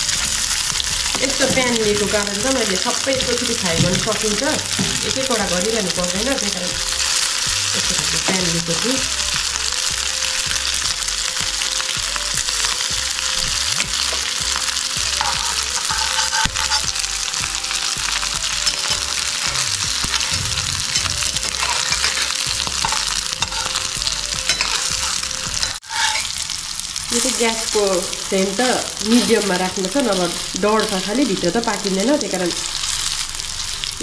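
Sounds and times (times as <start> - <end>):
patties sizzling in a pan: 0.0 - 34.0.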